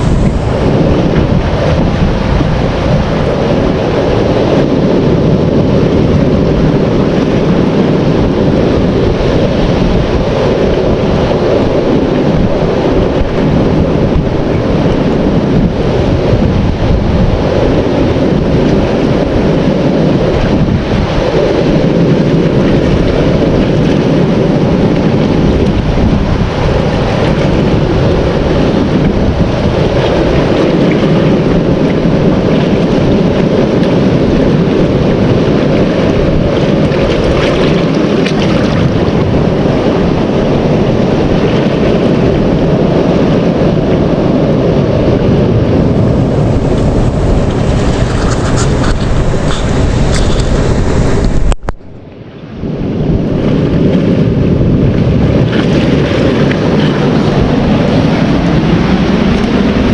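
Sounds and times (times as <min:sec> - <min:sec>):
sea waves washing among rocks: 0:00.0 - 0:59.9
wind noise on microphone: 0:00.0 - 0:59.9.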